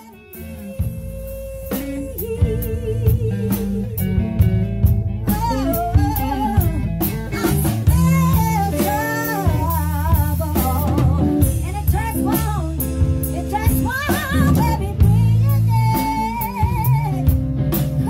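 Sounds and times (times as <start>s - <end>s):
person singing: 0.0s - 4.6s, 5.2s - 18.0s
drum kit: 0.0s - 18.0s
guitar: 0.0s - 18.0s.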